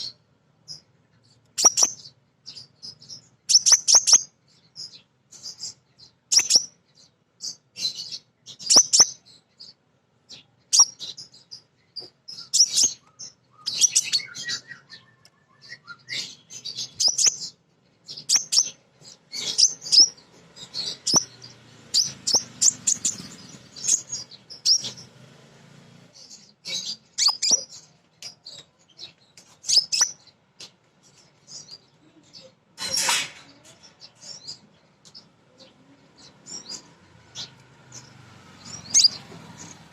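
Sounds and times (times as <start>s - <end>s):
bird chirping and chattering: 0.0s - 39.9s.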